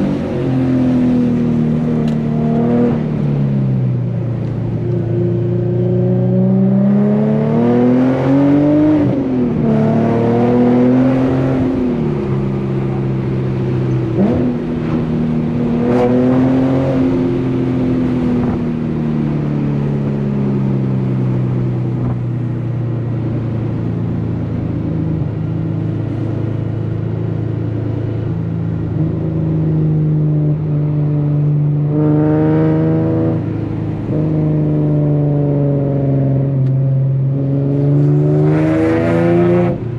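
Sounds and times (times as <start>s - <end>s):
car engine accelerating and shifting: 0.0s - 39.9s.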